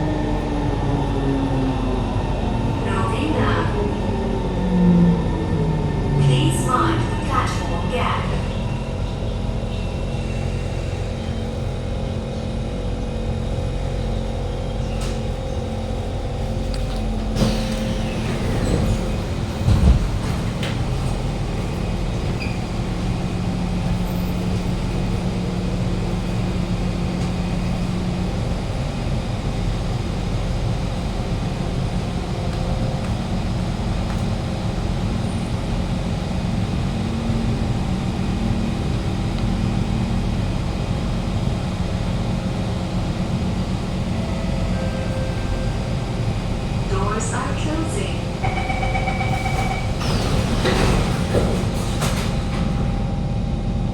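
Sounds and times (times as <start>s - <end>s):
wheel-on-rail rumble: 0.0s - 53.9s.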